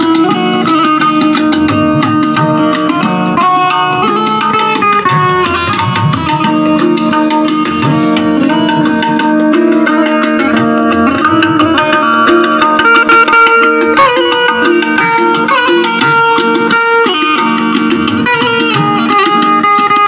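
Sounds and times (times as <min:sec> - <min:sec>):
electric banjo melody: 0:00.0 - 0:20.0
steady drum rhythm: 0:00.0 - 0:20.0.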